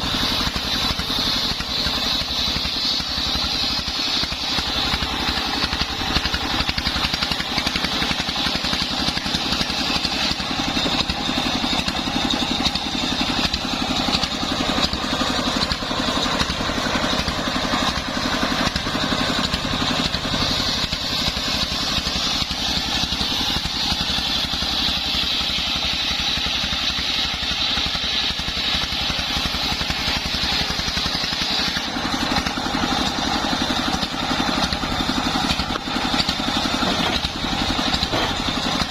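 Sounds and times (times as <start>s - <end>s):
circular saw whining: 0.0s - 38.9s
engine pulsing: 0.0s - 38.9s.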